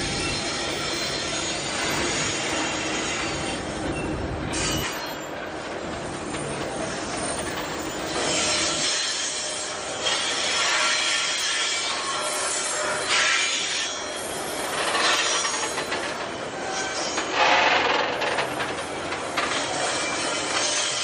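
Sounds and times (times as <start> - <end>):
high-pitched wheel squeal: 0.0 - 5.4, 6.3 - 21.0
train wagons rumbling on rails: 0.0 - 21.0.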